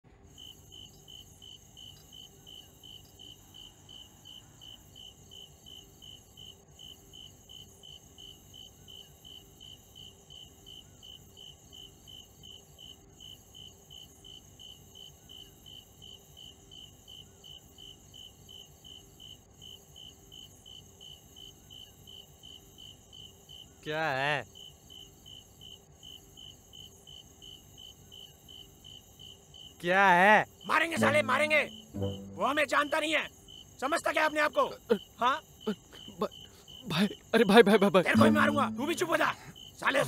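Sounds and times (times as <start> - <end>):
insects chirping: 0.1 - 40.0.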